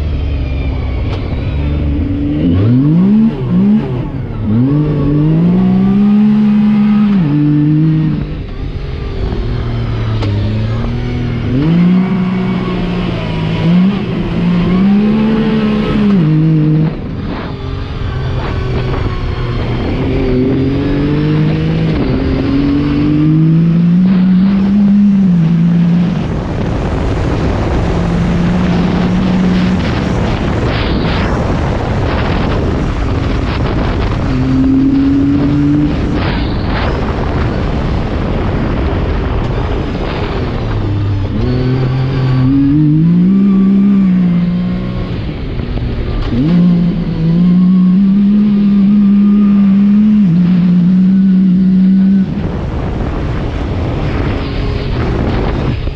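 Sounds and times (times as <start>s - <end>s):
engine accelerating through gears: 0.0s - 55.9s.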